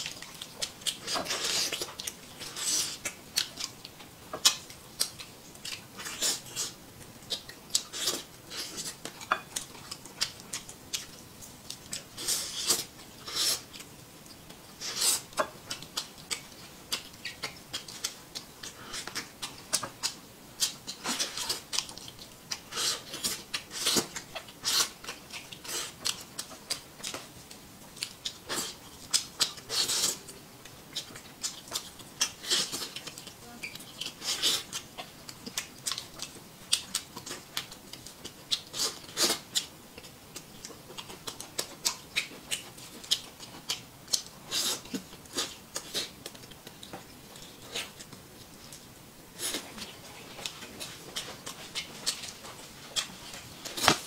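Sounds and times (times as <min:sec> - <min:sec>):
wet smacking and chewing: 0:00.0 - 0:54.0.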